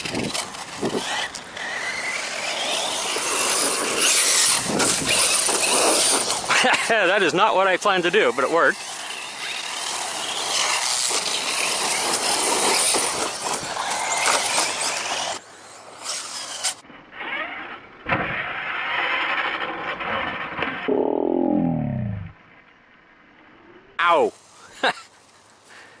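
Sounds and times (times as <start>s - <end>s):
tires churning dirt: 0.0s - 26.0s.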